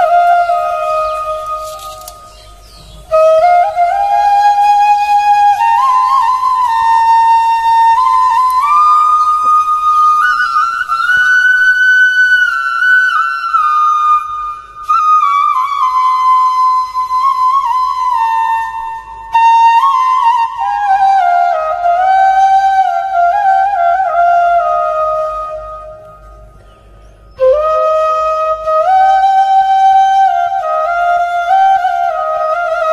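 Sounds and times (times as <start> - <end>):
slow flute melody: 0.0 - 26.6, 27.3 - 32.9.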